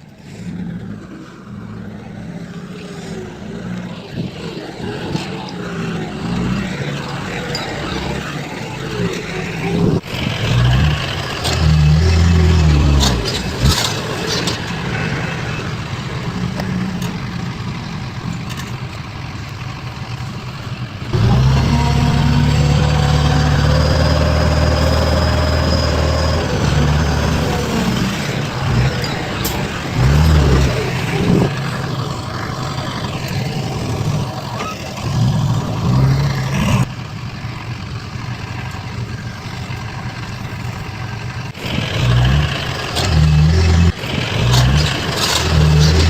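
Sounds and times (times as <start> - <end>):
heavy machinery engines under load: 0.0 - 46.0.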